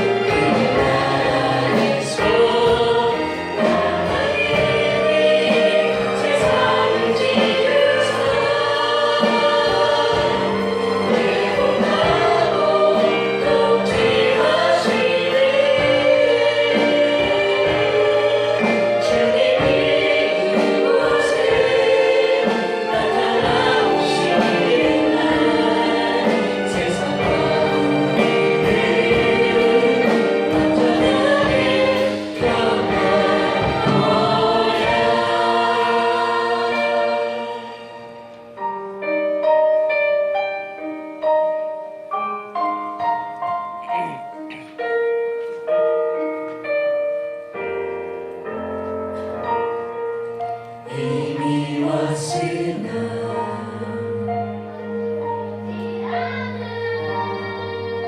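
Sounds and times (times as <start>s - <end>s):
choir singing with accompaniment: 0.0s - 58.0s.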